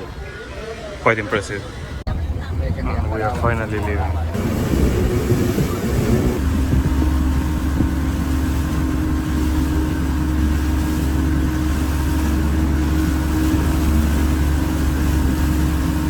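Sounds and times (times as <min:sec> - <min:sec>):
motorboat engine droning: 0:01.6 - 0:16.0.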